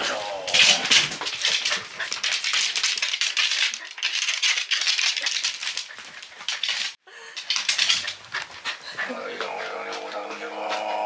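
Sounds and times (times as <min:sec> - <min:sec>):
dog claws clicking on wooden floor: 0:00.5 - 0:10.5.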